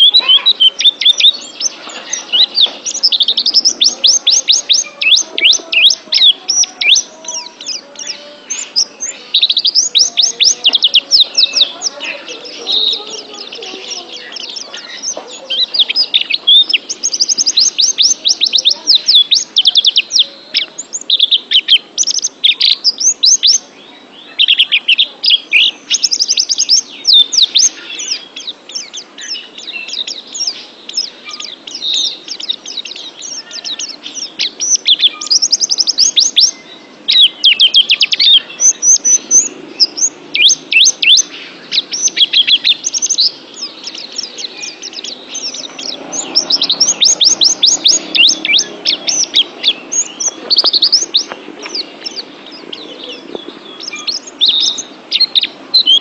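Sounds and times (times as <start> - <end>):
bird chirping and twittering: 0.0 - 56.0.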